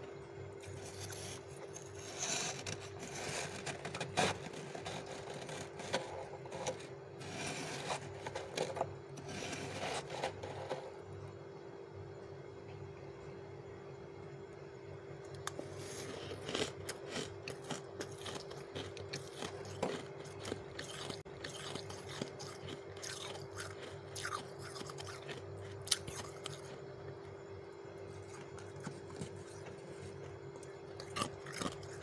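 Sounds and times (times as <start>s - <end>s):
steady low hum: 0.0s - 32.0s
crisp crunches of freezer frost: 0.6s - 10.9s, 15.4s - 26.9s, 28.1s - 32.0s.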